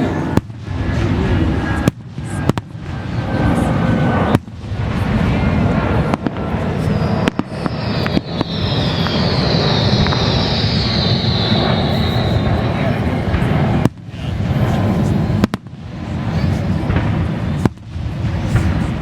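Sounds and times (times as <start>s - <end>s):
fireworks cracking bangs: 0.0s - 19.0s
fireworks rumble: 0.0s - 19.0s.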